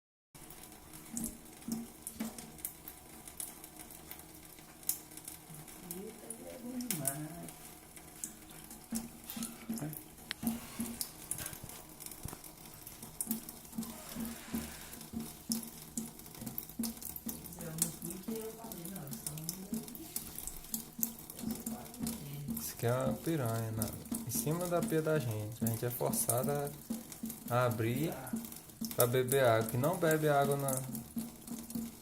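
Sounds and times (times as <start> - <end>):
water trickling from a tap: 0.4 - 32.0
cat lapping water: 0.8 - 32.0.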